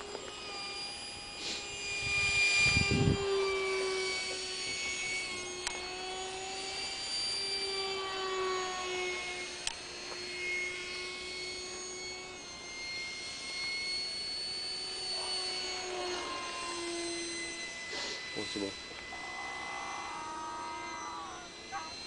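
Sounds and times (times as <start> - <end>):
model aircraft motor whining: 0.0 - 22.0.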